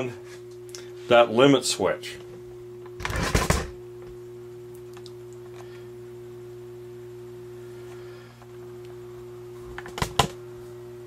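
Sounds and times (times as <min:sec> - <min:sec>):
electric heater humming: 0:00.0 - 0:11.0.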